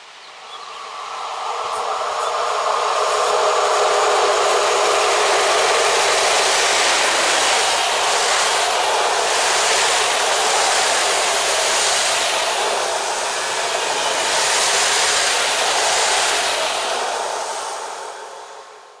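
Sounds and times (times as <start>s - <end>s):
train coaches rolling on rails: 0.4s - 18.3s.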